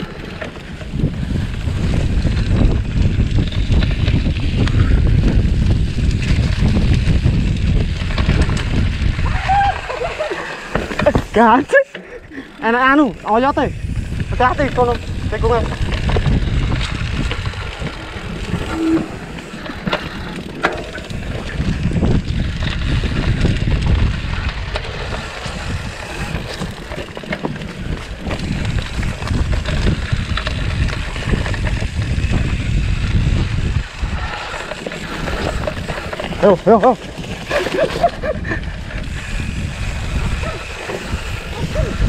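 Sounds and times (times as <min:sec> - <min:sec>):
bike frame rattling: 0:00.0 - 0:42.0
tyres on dirt: 0:00.0 - 0:42.0
wind rumble on microphone: 0:00.0 - 0:42.0.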